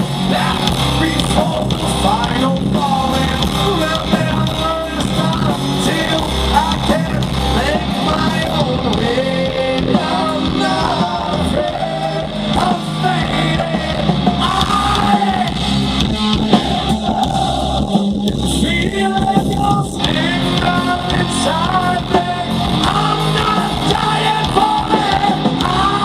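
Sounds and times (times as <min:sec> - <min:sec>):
drums: 0:00.0 - 0:26.0
electric guitar: 0:00.0 - 0:26.0
man singing into microphone: 0:00.0 - 0:26.0.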